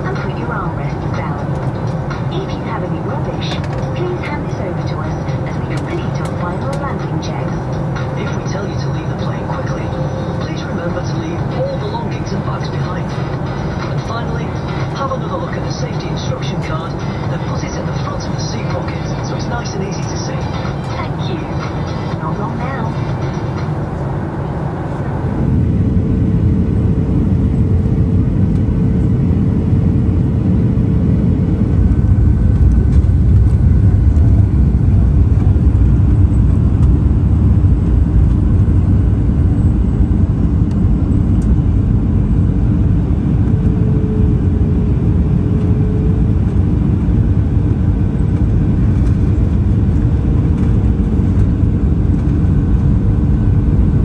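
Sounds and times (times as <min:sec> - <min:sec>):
airplane cabin engine rumble: 0:00.0 - 0:54.0
faint hum: 0:00.0 - 0:54.0.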